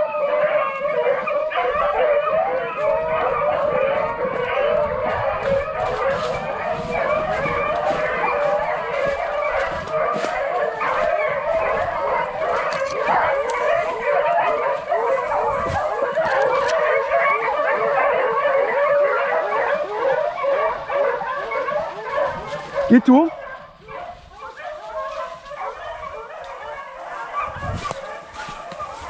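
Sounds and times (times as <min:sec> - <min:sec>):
beagles baying and yelping: 0:00.0 - 0:29.0.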